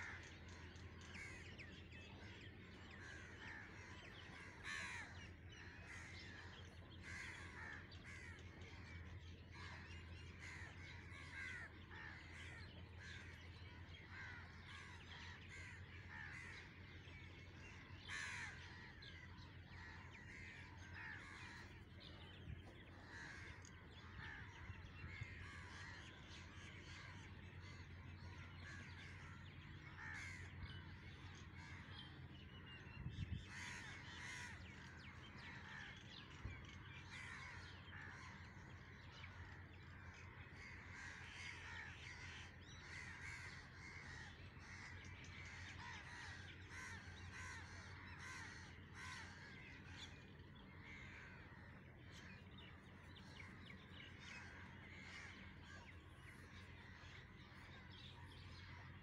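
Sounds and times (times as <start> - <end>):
birds chattering: 0.0 - 59.0
low steady hum: 0.0 - 59.0.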